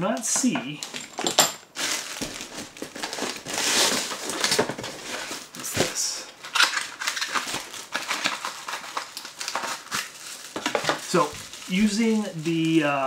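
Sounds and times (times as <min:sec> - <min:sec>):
plastic packaging crinkling: 0:00.8 - 0:13.0
cardboard packaging handled: 0:00.9 - 0:13.0.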